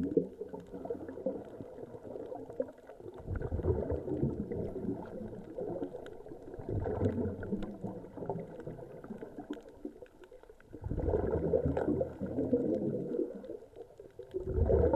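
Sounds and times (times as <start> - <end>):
regulator bubbles gurgling underwater: 0.0 - 14.9.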